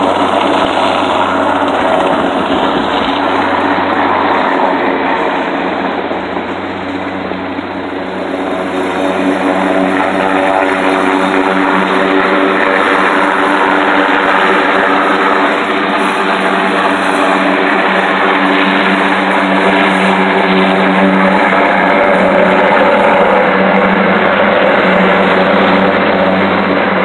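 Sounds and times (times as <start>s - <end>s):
helicopter rotor and engine drone: 0.0s - 27.0s.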